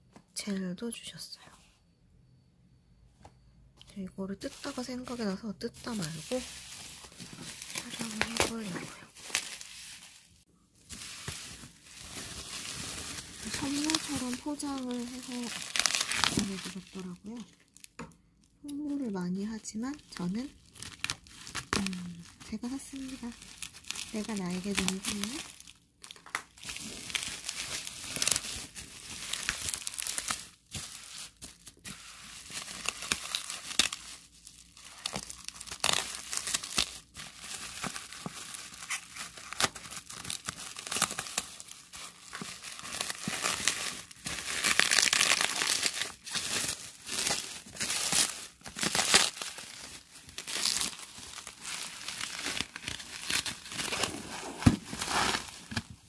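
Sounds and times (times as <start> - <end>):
wrapping paper tearing and crumpling: 4.4 - 17.9, 18.8 - 56.0.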